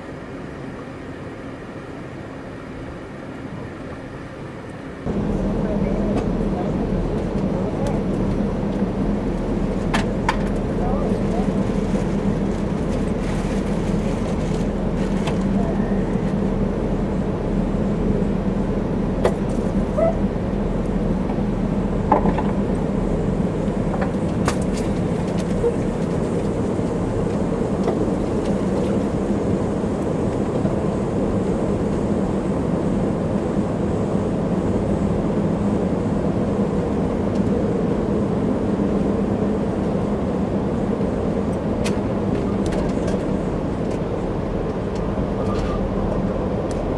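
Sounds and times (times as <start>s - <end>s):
low steady hum: 0.0s - 46.9s
train wheels rumbling on rails: 3.6s - 46.9s.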